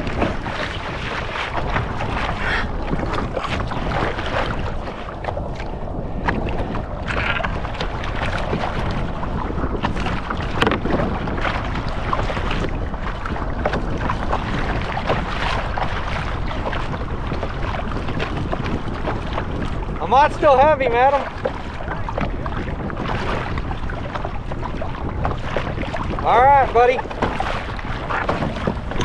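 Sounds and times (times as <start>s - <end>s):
water splashing against kayak hull: 0.0s - 29.0s
wind buffeting microphone: 0.0s - 29.0s.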